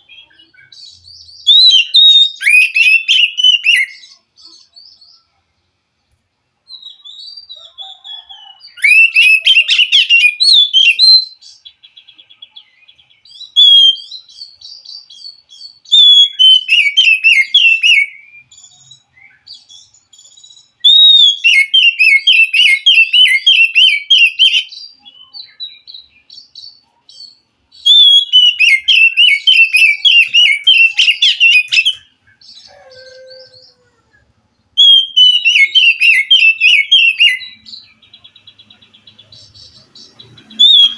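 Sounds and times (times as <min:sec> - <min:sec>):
bird singing whistled notes: 0:00.0 - 0:05.2, 0:06.7 - 0:34.0, 0:34.8 - 0:40.9.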